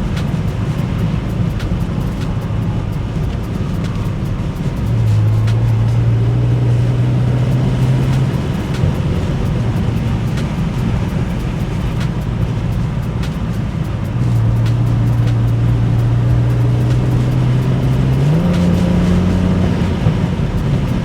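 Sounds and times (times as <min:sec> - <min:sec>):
car engine drone: 0:00.0 - 0:21.0
light ticks: 0:00.0 - 0:21.0
road noise: 0:00.0 - 0:21.0.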